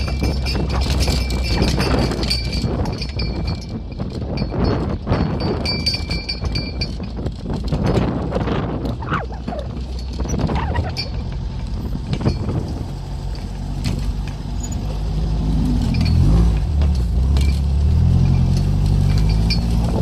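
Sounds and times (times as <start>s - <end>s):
buggy engine running: 0.0s - 20.0s
knocks and rattles: 0.0s - 20.0s.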